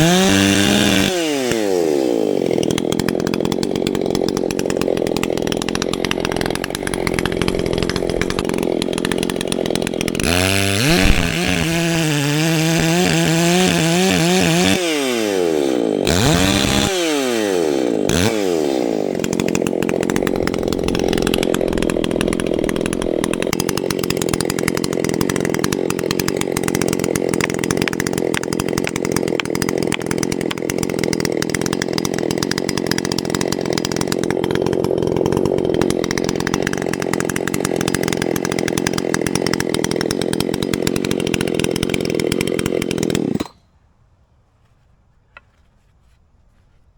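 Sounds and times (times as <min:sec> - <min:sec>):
chainsaw cutting wood: 0:00.0 - 0:43.7.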